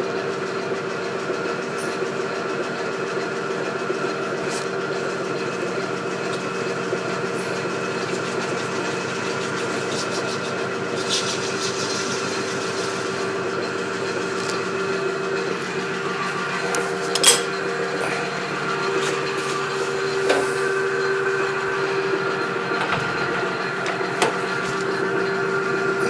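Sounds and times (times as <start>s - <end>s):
metal lathe humming: 0.0s - 26.0s.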